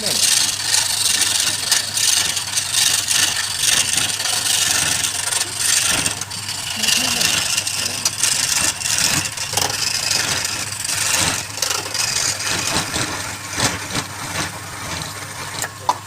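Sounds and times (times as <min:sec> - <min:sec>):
lathe motor hum: 0:00.0 - 0:16.0
turning tool scraping wood: 0:00.0 - 0:16.0.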